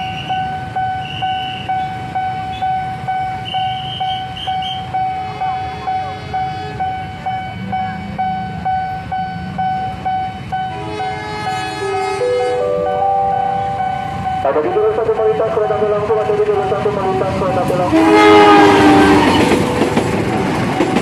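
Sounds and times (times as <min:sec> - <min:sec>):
level crossing warning bell ringing: 0:00.0 - 0:21.0.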